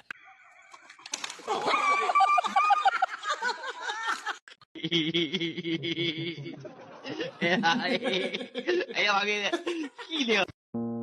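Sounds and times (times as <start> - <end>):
person giggling: 1.5 - 10.5.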